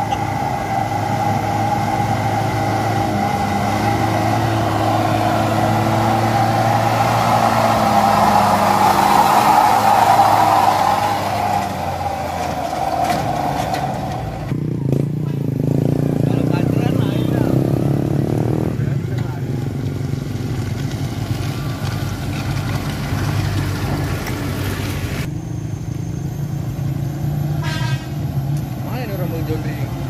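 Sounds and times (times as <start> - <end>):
diesel truck engine under load: 0.0 - 27.6.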